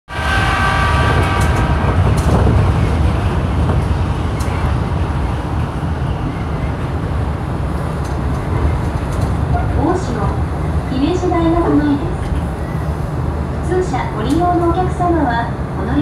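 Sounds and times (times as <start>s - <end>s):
train wheels rumbling on rails: 0.1s - 16.0s.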